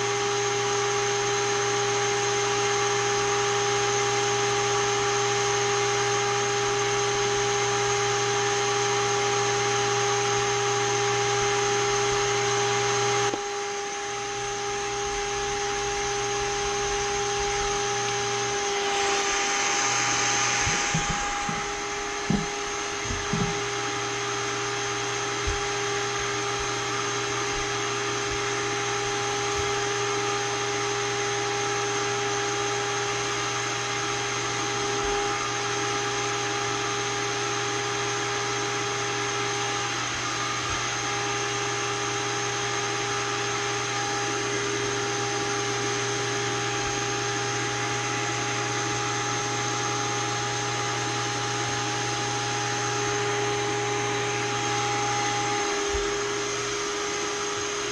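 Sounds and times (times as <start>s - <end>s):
small electric vacuum motor humming: 0.0s - 57.9s.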